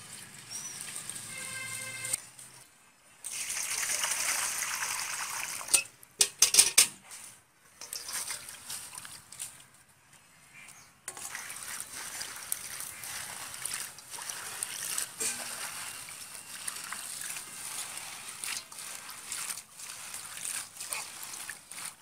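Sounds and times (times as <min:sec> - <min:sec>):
water splashing in a steel bowl: 0:00.0 - 0:02.2, 0:03.2 - 0:06.8, 0:07.8 - 0:09.7, 0:11.1 - 0:22.0
hands washing leaves: 0:00.0 - 0:06.4, 0:07.0 - 0:10.3, 0:11.1 - 0:22.0.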